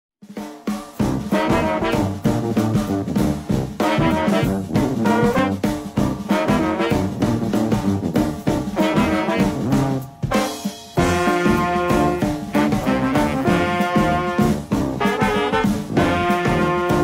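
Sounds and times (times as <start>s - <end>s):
brass swing music: 0.2s - 17.0s.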